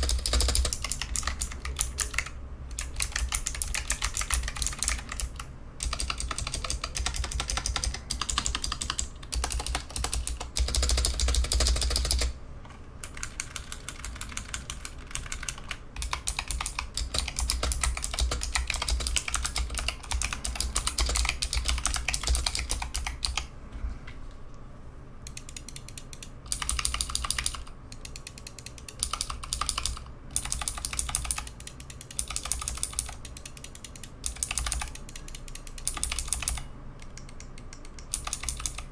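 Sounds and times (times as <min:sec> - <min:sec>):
clicky keyboard typing: 0:00.0 - 0:23.5, 0:25.2 - 0:38.9.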